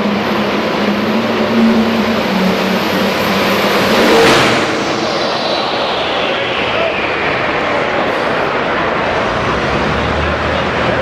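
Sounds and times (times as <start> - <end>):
engine running flat out with whine: 0.0 - 11.0.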